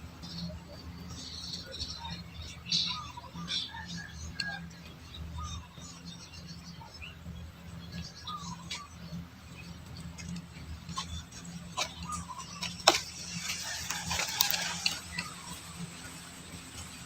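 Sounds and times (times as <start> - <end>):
faint bird chirps: 0.0 - 16.2
steady low hum: 0.0 - 17.0.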